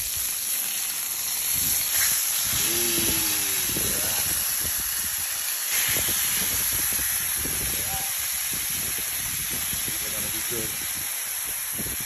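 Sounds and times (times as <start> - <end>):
steaks sizzling on a griddle: 0.0 - 12.0.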